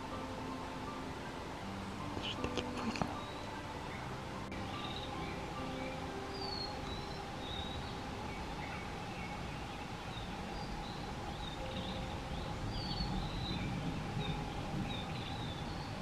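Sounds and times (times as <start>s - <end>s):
faint steady tone: 0.0s - 16.0s
low rumbling noise: 0.0s - 16.0s
songbirds chirping: 0.0s - 16.0s.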